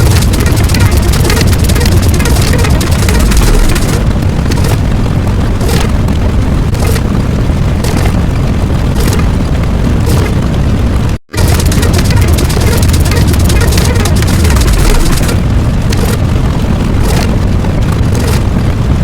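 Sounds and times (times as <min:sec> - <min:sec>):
crackling bursts: 0:00.0 - 0:19.0
deep rumbling boom: 0:00.0 - 0:19.0.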